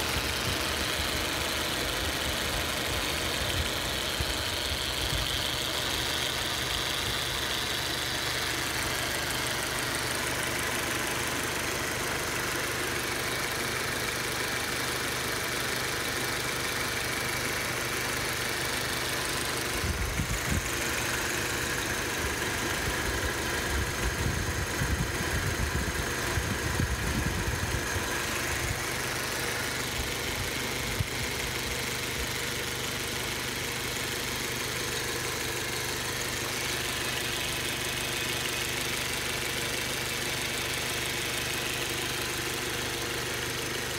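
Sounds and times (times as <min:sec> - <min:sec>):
car engine idling: 0:00.0 - 0:43.9
rough low engine rumble: 0:00.0 - 0:43.9.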